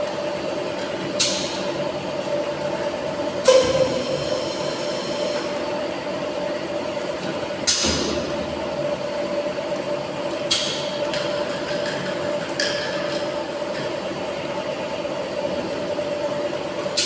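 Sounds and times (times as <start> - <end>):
machine hum and whine: 0.0 - 17.0.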